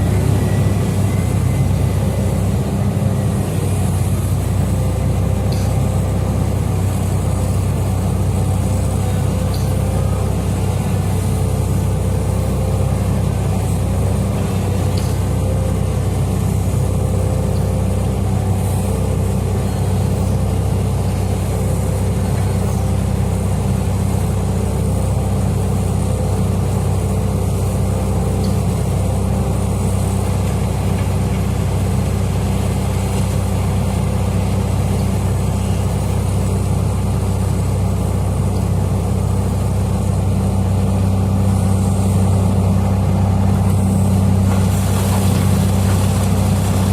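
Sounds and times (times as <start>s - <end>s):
heavy diesel machinery droning: 0.0s - 46.9s.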